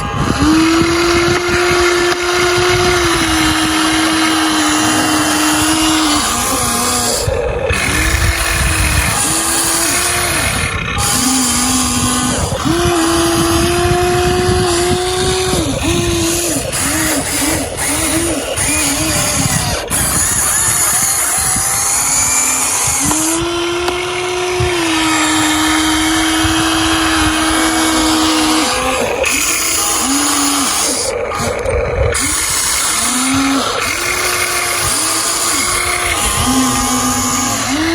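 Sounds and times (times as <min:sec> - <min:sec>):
electric motors whining: 0:00.0 - 0:37.9.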